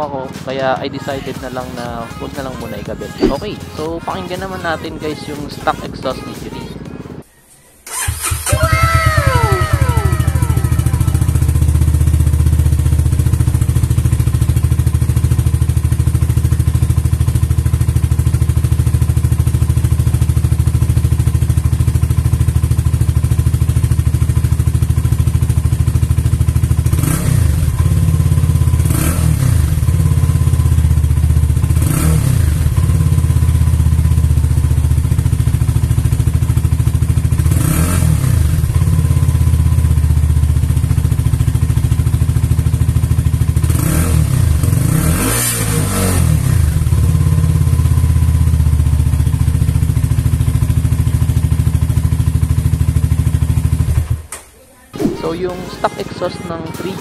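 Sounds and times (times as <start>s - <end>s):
motorcycle idling and revving: 7.9s - 54.4s.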